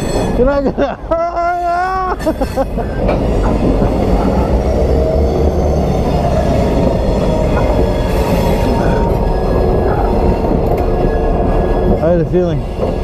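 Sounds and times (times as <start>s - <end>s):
diesel locomotives rumbling past: 0.0s - 13.0s.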